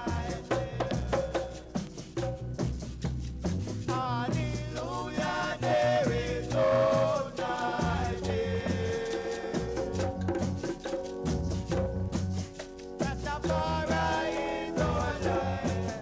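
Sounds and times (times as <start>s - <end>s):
reggae music over sound system: 0.0s - 1.7s, 4.0s - 16.0s.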